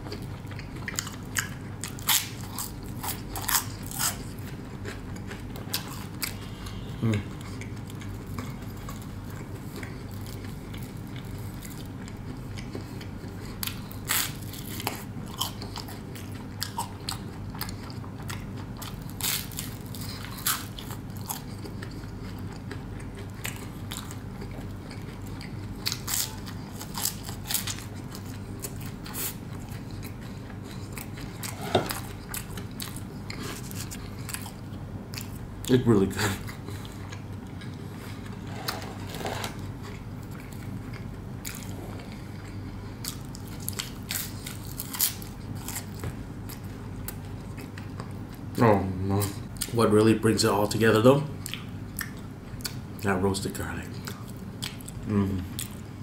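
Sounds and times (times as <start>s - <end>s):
crunchy bread chewing: 0.0s - 49.8s
low steady hum: 0.0s - 56.0s.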